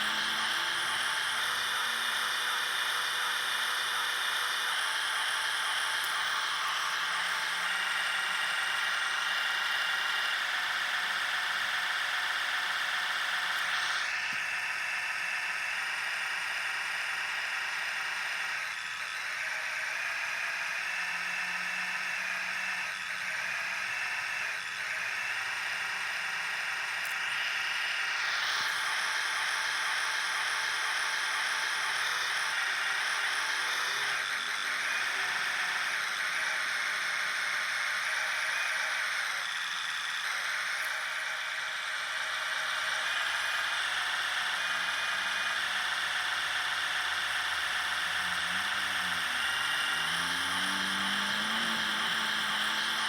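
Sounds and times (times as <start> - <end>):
electric motors and gearboxes whirring: 0.0 - 53.0.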